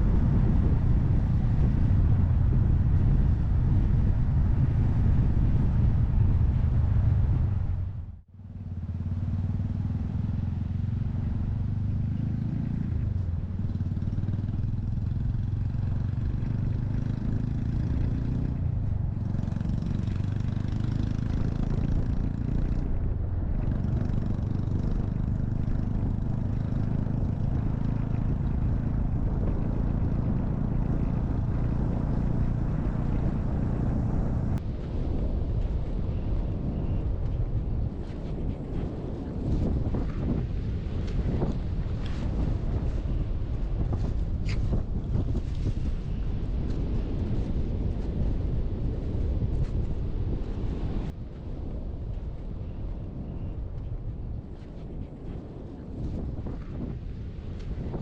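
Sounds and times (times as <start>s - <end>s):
motorcycle engine running: 0.0s - 34.6s, 35.6s - 51.1s
wind rush on microphone: 0.0s - 58.0s.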